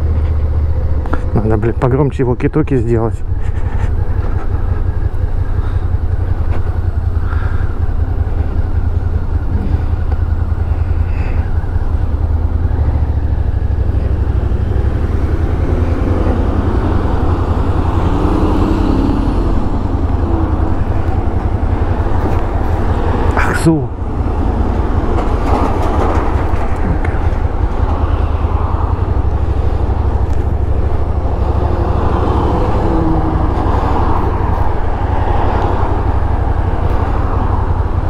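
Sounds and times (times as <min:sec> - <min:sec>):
motorcycle engine idling and accelerating: 0:00.0 - 0:38.0.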